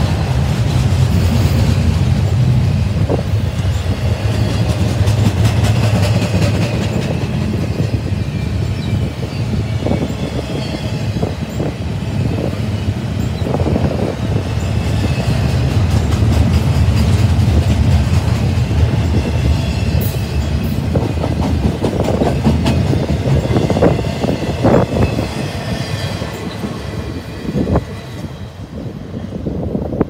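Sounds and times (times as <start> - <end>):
train wheels clicking over rails: 0.0 - 28.4
freight train rolling past: 0.0 - 30.0.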